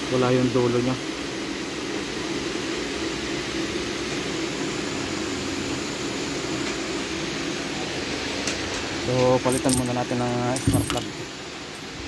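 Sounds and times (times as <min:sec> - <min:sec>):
mechanical drone with even hum: 0:00.0 - 0:12.0.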